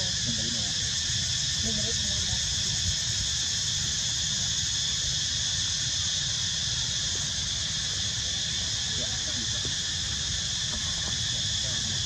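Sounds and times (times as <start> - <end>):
shrill insect chorus: 0.0 - 12.0.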